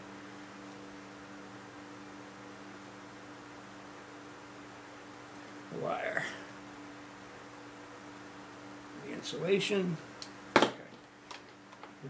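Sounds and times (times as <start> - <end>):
electrical hum: 0.0 - 12.0
steady hiss: 0.0 - 12.0.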